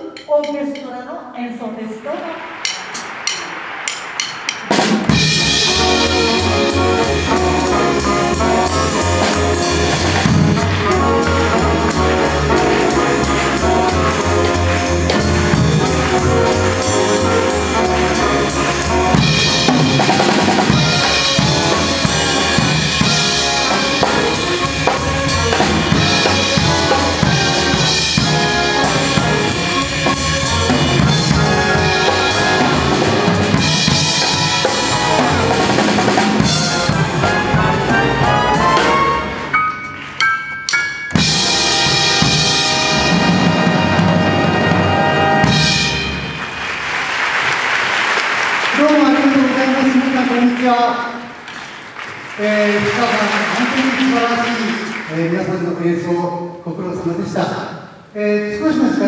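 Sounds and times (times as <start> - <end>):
big band playing jazz: 0.0 - 59.0.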